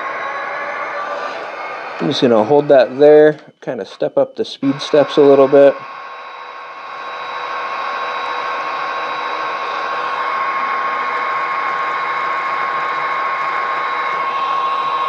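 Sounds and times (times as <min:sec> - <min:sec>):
electric motor whine and hum: 0:00.0 - 0:15.0.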